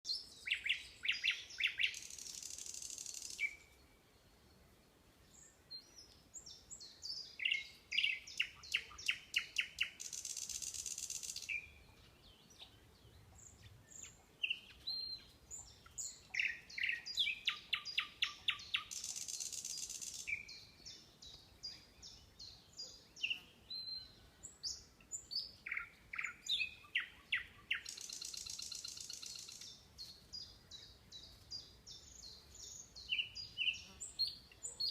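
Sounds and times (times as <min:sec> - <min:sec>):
soft bird chirps: 0:00.1 - 0:34.9.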